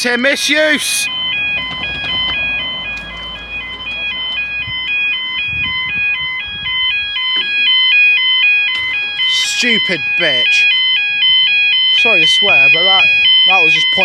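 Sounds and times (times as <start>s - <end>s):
level crossing two-tone alarm: 0.7s - 13.9s.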